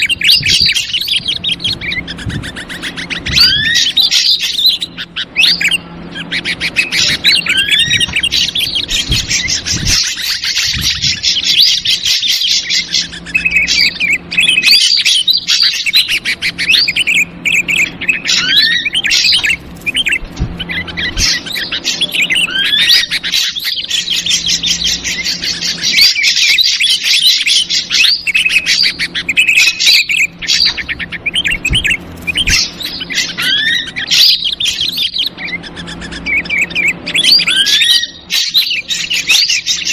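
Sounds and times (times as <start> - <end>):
bird chattering and whistling: 0.0 - 39.9.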